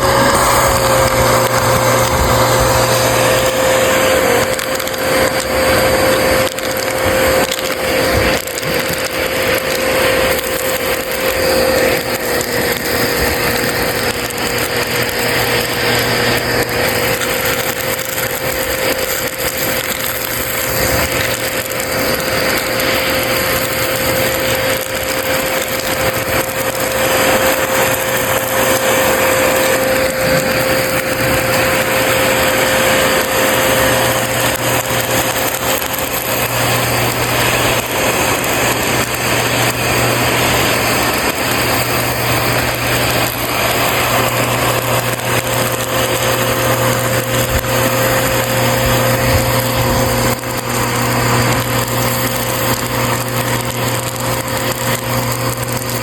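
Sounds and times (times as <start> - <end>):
debris rattling up vacuum hose: 0.0 - 56.0
upright vacuum motor whine: 0.0 - 56.0.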